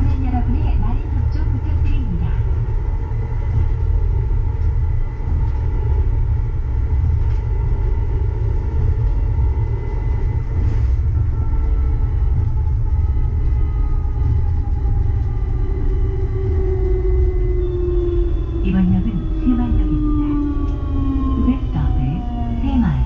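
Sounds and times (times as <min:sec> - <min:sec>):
train running rumble: 0:00.0 - 0:23.0.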